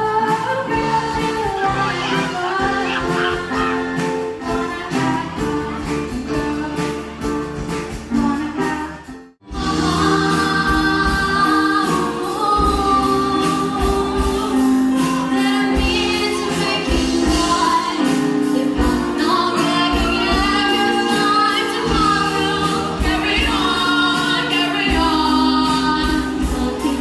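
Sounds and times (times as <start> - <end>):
music with singing: 0.0 - 27.0
song with group singing: 0.0 - 27.0.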